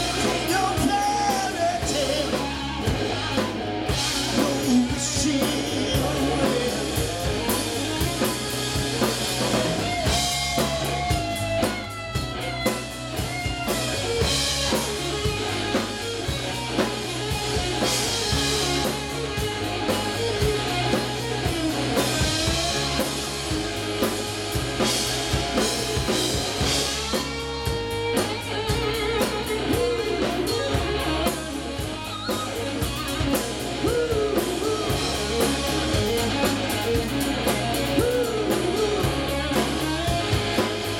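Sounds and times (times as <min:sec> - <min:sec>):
electric guitar lead: 0:00.0 - 0:40.9
rock band playing live: 0:00.0 - 0:40.9.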